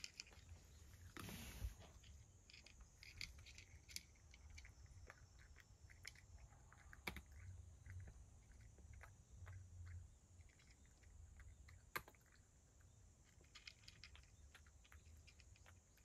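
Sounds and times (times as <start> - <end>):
cat crunching dry kibble: 0.0 - 16.0.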